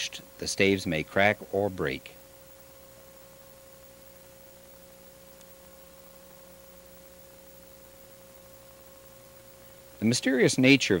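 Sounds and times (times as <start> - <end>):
even hiss: 0.0 - 4.3, 5.0 - 11.0
faint steady hum: 0.0 - 11.0.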